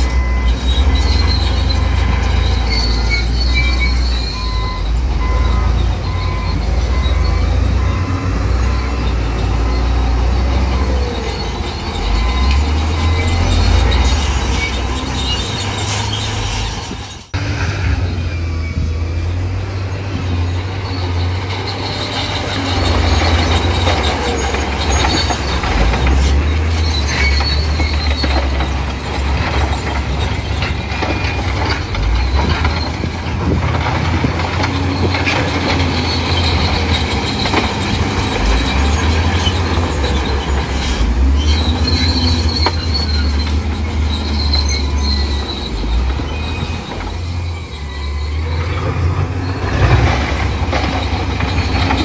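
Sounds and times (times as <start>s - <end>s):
diesel engine rumbling: 0.0s - 52.0s
steel tracks clanking and squealing: 0.0s - 52.0s.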